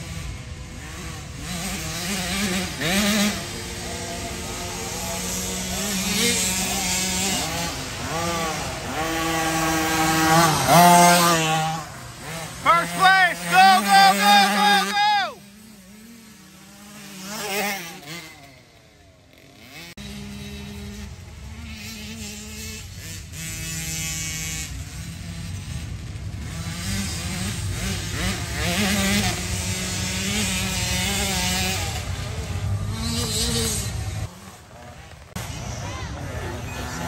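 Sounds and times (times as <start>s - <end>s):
dirt bike engines revving: 0.0s - 37.0s.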